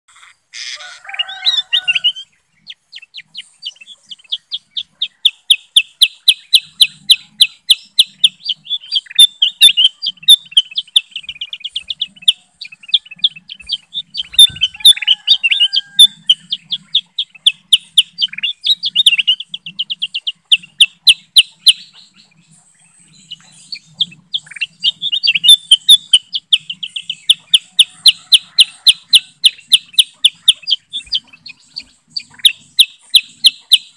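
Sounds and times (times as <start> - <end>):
bulbuls chirping: 0.1 - 33.9.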